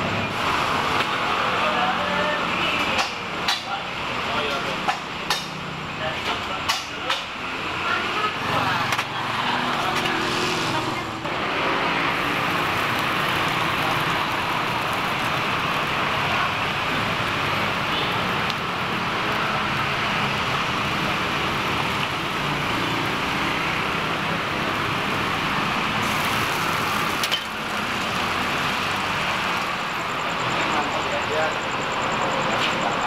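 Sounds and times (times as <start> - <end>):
roadside traffic rumble: 0.0 - 33.0.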